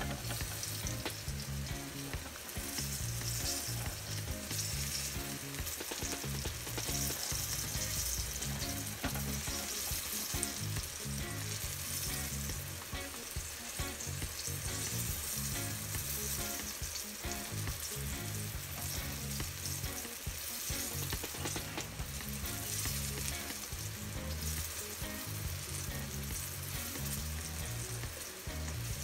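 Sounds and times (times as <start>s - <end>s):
eggplant slices sizzling in oil: 0.0s - 29.0s.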